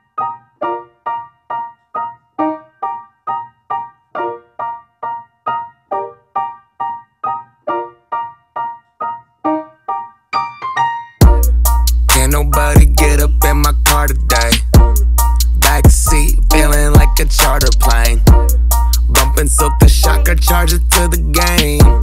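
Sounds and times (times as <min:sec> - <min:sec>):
background music melody: 0:00.0 - 0:22.0.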